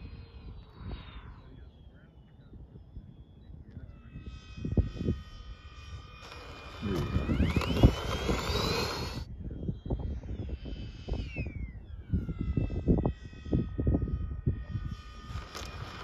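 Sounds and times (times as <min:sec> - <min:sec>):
electric ducted fans whining: 0:00.0 - 0:16.0
wind rumbling on microphone: 0:00.0 - 0:16.0.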